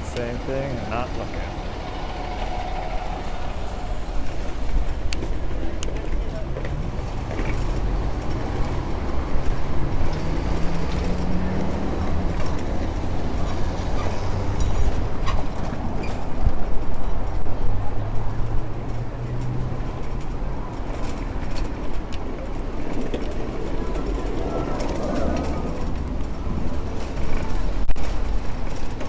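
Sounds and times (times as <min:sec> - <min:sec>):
passing vehicle engine hum: 0:00.0 - 0:16.4, 0:17.3 - 0:29.0
street traffic: 0:00.0 - 0:29.0
wind rumbling on microphone: 0:00.0 - 0:29.0.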